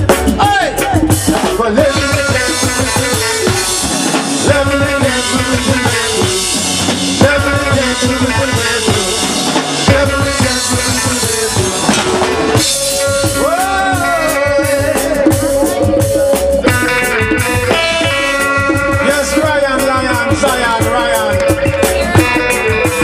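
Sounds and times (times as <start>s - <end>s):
reggae band playing: 0.0s - 23.0s.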